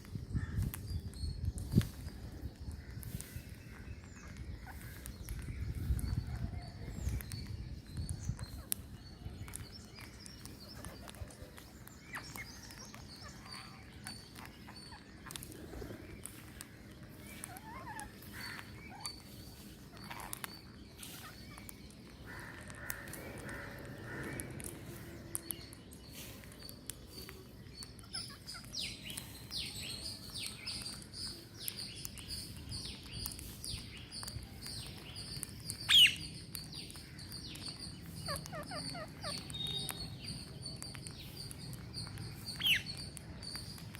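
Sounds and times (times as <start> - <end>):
wild bird calls and chirps: 0.0 - 43.9.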